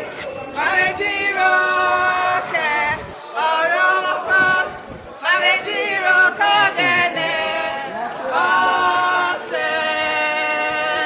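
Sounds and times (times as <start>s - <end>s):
voices singing held notes: 0.0s - 11.0s.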